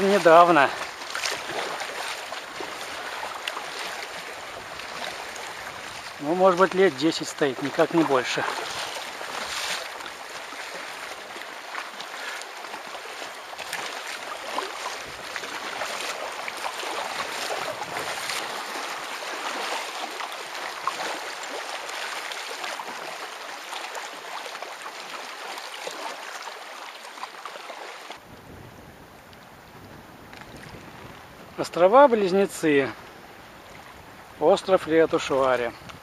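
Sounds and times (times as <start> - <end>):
paddle strokes splashing: 0.0 - 28.2, 31.8 - 36.0
water lapping around kayak: 0.0 - 36.0.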